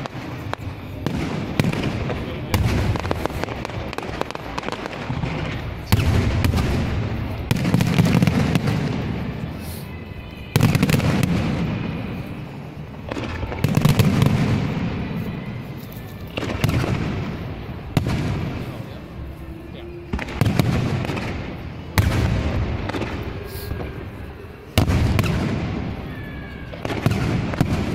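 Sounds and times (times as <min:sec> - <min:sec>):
firework booms with rumble: 0:00.0 - 0:09.5, 0:10.6 - 0:15.2, 0:16.3 - 0:18.9, 0:20.1 - 0:27.9
firework crackling: 0:00.0 - 0:27.9.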